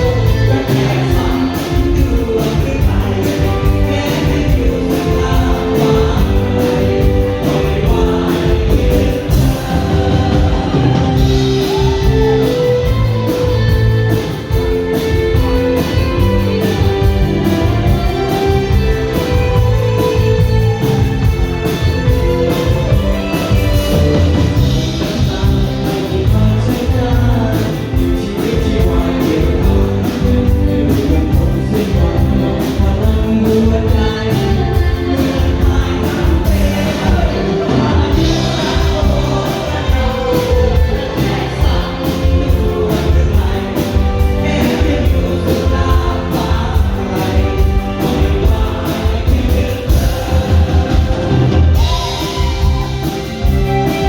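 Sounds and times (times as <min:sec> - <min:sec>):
person singing: 0:00.0 - 0:54.0
pop-rock band playing: 0:00.0 - 0:54.0.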